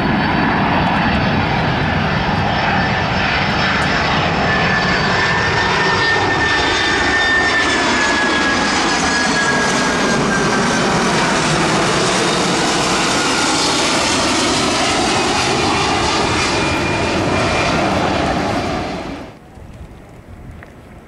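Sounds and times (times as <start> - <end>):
jet engine rumble and whine: 0.0 - 21.0.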